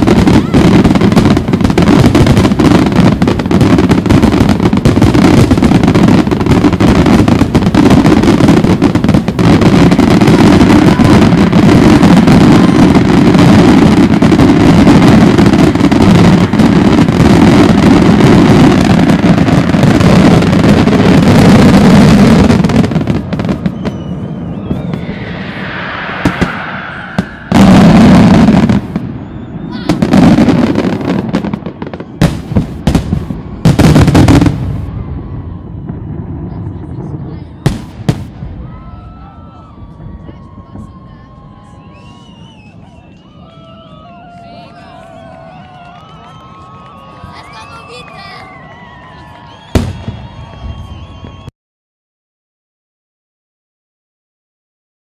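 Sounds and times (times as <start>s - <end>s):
fireworks bursts and crackle: 0.0s - 51.5s.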